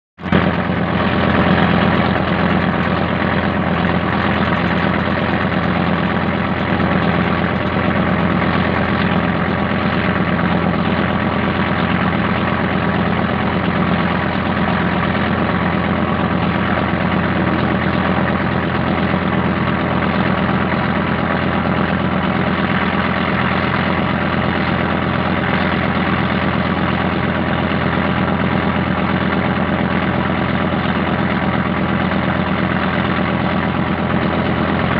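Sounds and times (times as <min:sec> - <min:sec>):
boat engine running: 0:00.2 - 0:34.9.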